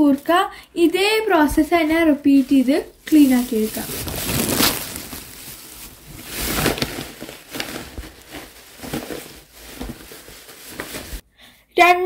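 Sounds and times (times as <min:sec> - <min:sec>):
plastic bags rustling and crinkling: 0:01.4 - 0:11.2.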